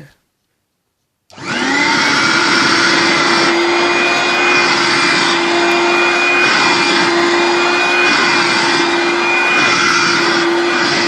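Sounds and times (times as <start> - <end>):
handheld vacuum cleaner whine: 1.3 - 11.0.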